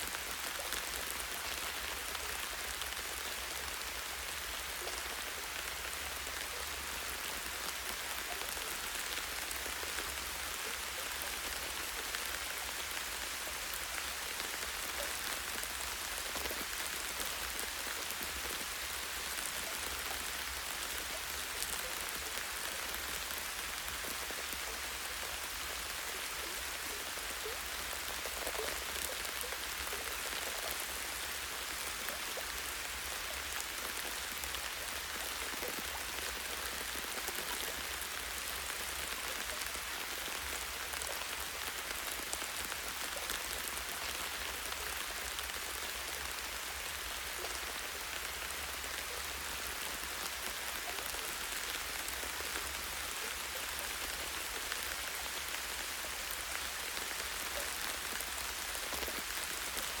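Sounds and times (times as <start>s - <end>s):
rain pattering on leaves: 0.0s - 60.0s.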